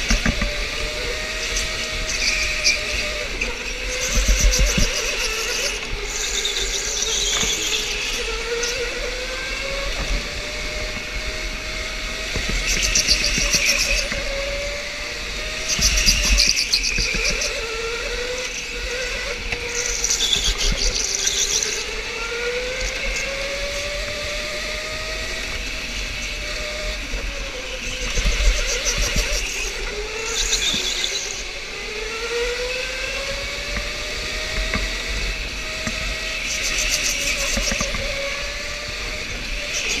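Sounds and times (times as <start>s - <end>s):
electric motor whine: 0.0s - 40.0s.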